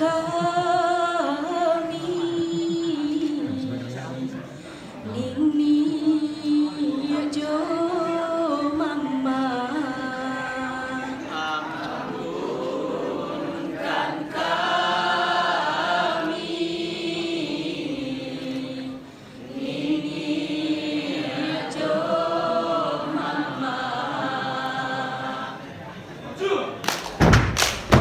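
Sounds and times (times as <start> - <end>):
unison vocal chant: 0.0 - 25.9.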